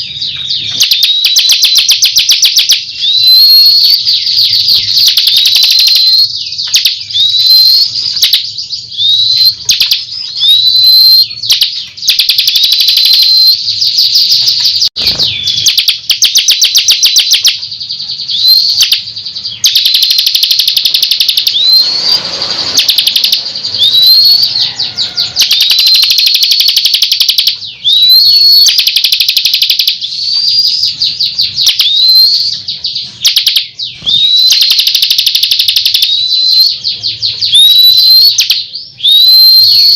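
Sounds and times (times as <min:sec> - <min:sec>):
whistled bird notes: 0:00.0 - 0:35.2, 0:35.8 - 0:39.9
bird singing buzzy trills: 0:00.0 - 0:39.9.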